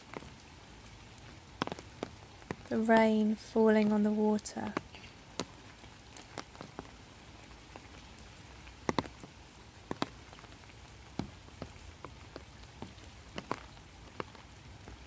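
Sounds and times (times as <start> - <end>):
light rain hiss: 0.0 - 15.0
raindrops ticking: 0.0 - 15.0.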